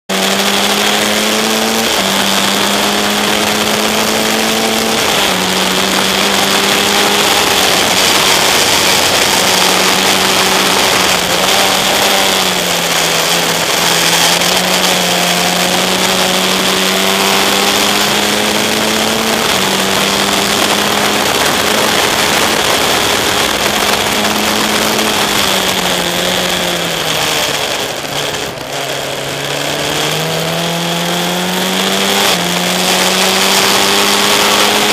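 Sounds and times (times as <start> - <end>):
race car engine revving: 0.1 - 34.9
wind and road noise: 0.1 - 34.9.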